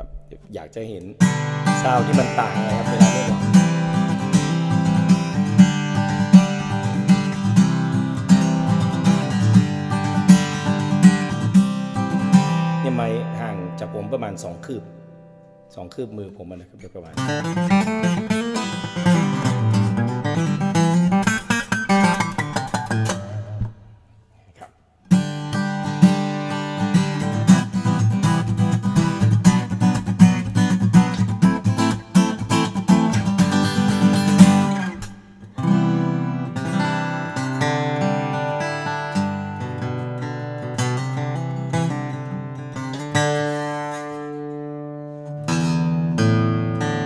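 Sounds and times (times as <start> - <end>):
acoustic guitar strumming: 1.2 - 15.8, 17.0 - 24.0, 25.1 - 47.0.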